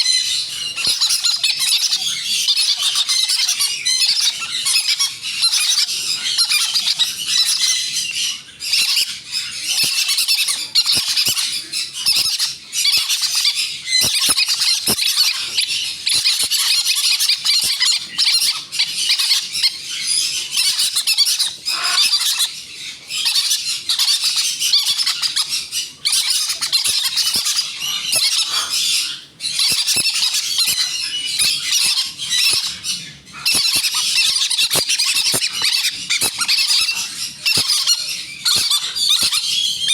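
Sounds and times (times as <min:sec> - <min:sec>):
parrot chicks squealing: 0:00.0 - 0:39.9.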